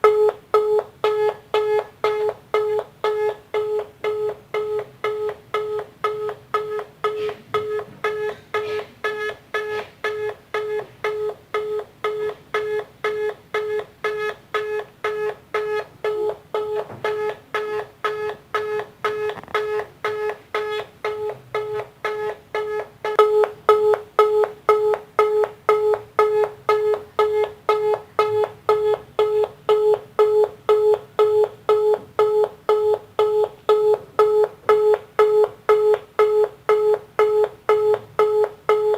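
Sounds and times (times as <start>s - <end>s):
telephone busy signal beeping: 0.0s - 38.9s.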